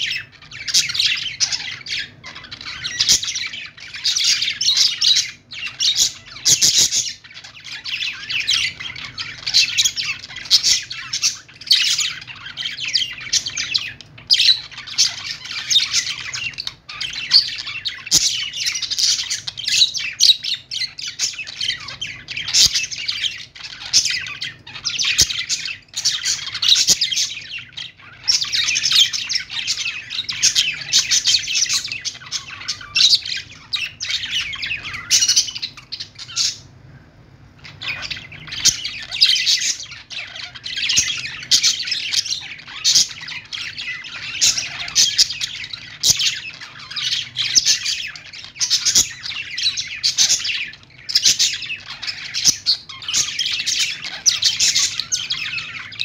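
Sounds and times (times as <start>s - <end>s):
budgerigars chattering: 0.0s - 36.7s, 37.6s - 56.0s.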